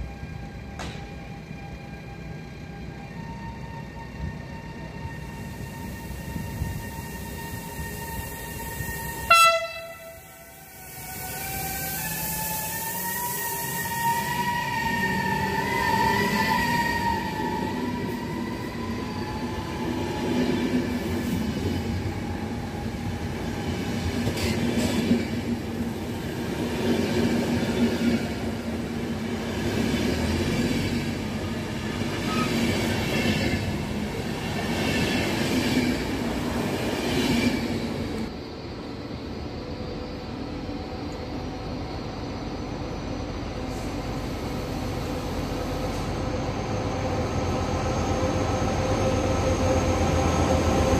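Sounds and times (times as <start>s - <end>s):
distant train rumble: 0.0s - 50.9s
train wheels rolling on rails: 0.0s - 50.9s.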